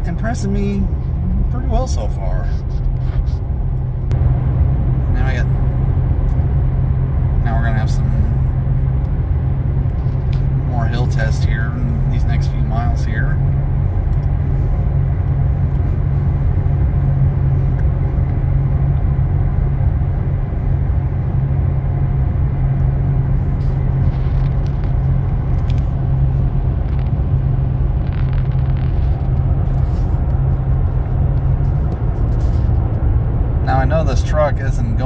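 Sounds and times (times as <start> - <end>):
engine and road drone in cab: 0.0 - 35.0.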